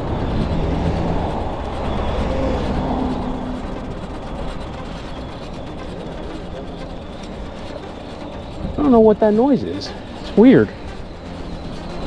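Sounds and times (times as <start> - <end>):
bicycle rolling: 0.0 - 12.0
brake cable rubbing on tire: 0.0 - 12.0
wind: 0.0 - 12.0.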